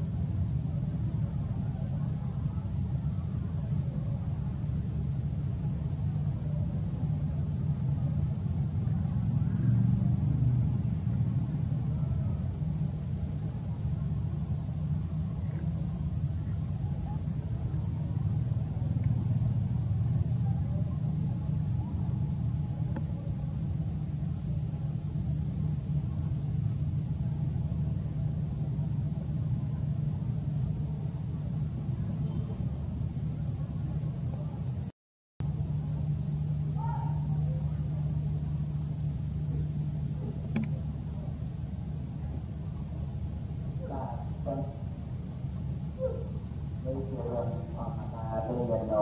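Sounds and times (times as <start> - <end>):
steady low rumble: 0.0 - 49.0.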